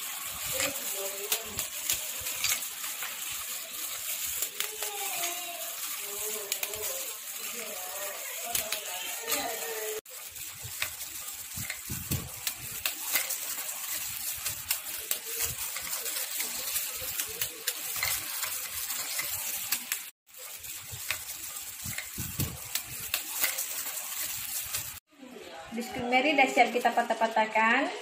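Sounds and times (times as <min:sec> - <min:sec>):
biscuits cracking: 0:00.0 - 0:25.0
plastic gloves rustling: 0:00.0 - 0:25.1, 0:25.8 - 0:28.0.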